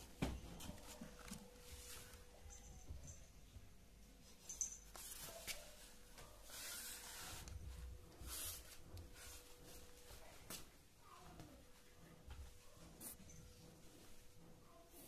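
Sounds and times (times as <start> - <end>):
faint rustling and rubbing: 0.4 - 3.2, 4.1 - 15.0.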